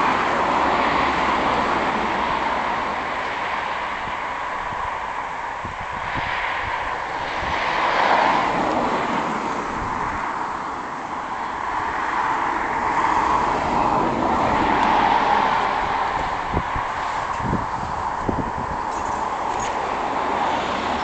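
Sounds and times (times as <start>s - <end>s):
aircraft engines rushing: 0.0s - 21.0s.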